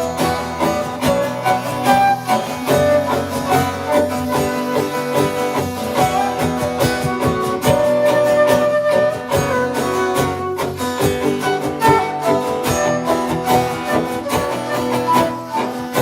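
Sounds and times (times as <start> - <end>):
acoustic guitar strumming: 0.0 - 16.0
held melody line: 0.0 - 16.0.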